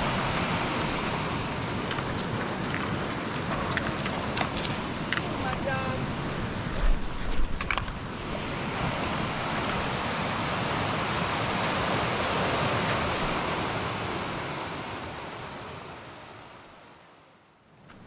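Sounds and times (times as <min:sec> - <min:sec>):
flowing river water: 0:00.0 - 0:17.4.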